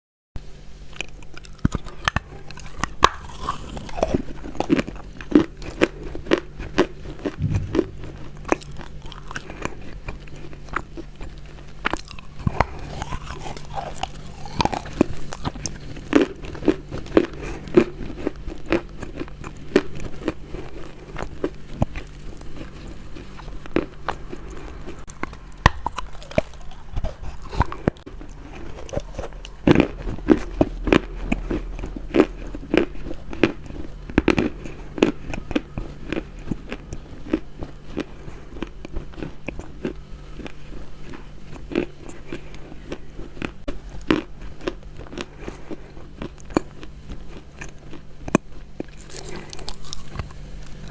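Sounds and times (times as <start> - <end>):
faint steady hum: 0.4 - 50.9
chewing crunchy food: 0.8 - 50.9.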